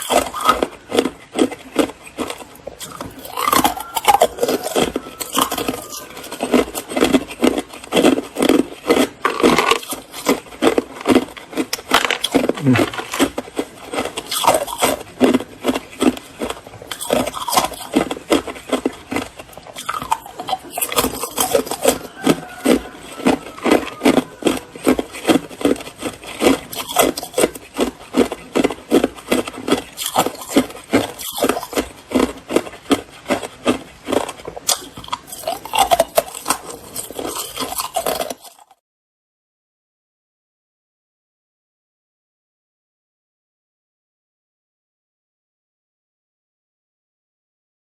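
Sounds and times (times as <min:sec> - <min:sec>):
ice being chewed: 0:00.0 - 0:38.8.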